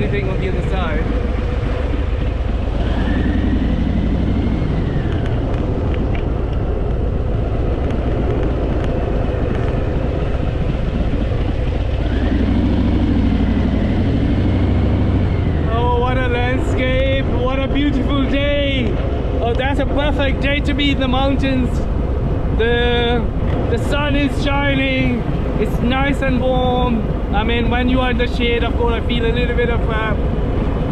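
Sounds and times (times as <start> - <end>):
motorcycle engine running: 0.0 - 30.9
wind rush: 0.0 - 30.9.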